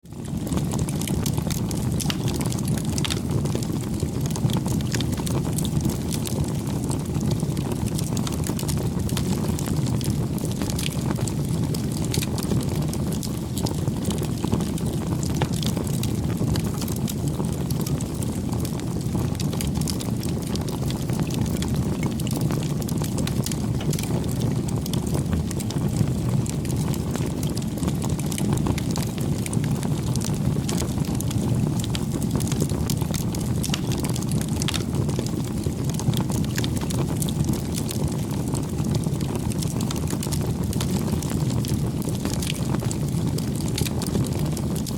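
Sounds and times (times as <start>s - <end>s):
burning wood crackling and popping: 0.1s - 44.9s
campfire flames rushing: 0.1s - 44.9s.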